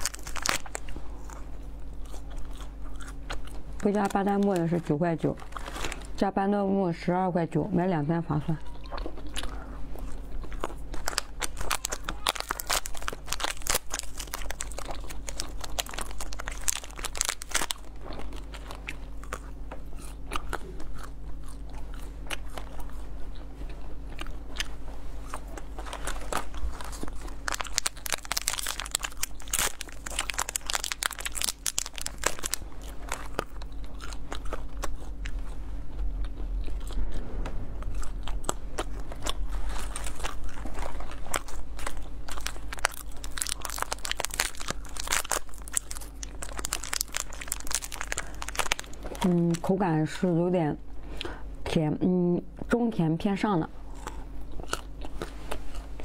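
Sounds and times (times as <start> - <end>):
chewing crunchy sweets: 0.0 - 51.6, 52.5 - 56.0.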